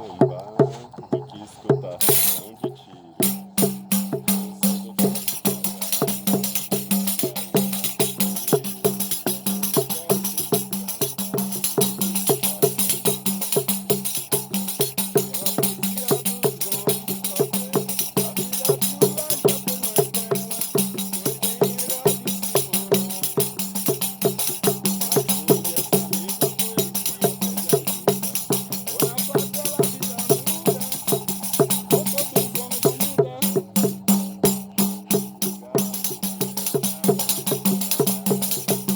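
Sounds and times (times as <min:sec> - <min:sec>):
music with fast percussion beat: 0:00.0 - 0:38.9
bright jingling: 0:02.0 - 0:02.6, 0:03.2 - 0:38.9.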